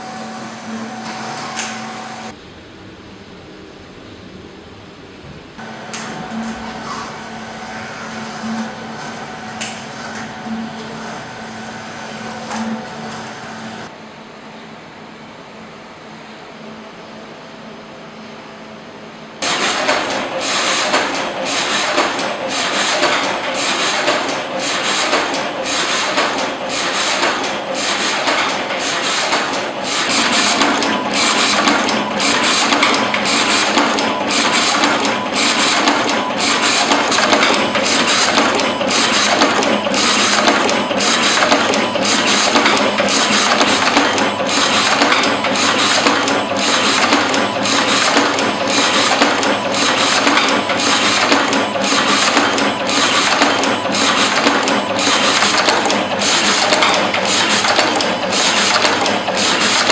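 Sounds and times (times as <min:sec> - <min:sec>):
machine rhythmic mechanical clatter: 0:05.6 - 0:14.0, 0:19.4 - 0:59.9.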